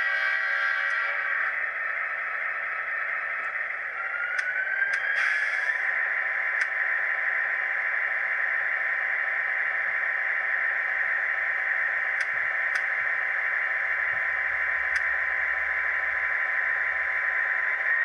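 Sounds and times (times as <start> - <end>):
model locomotive engine sound from speaker: 0.0 - 18.0.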